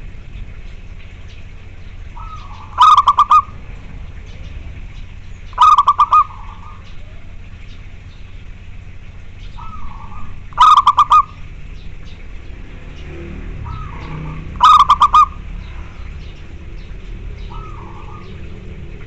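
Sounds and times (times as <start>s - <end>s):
dove staccato cooing: 1.2s - 19.0s.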